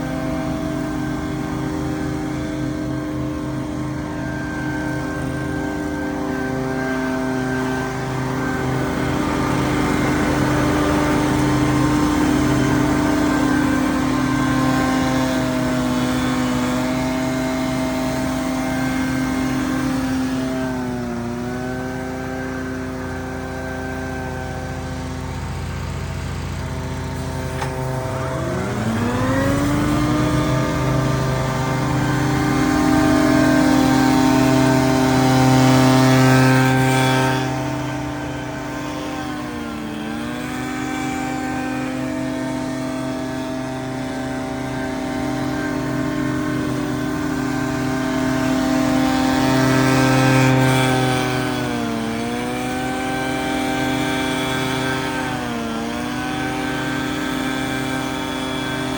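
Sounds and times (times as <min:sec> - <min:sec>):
leaf blower engine: 0:00.0 - 0:58.9.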